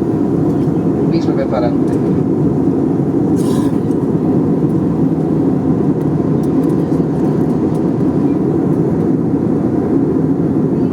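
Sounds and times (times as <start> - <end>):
airliner cabin noise: 0.0 - 10.9.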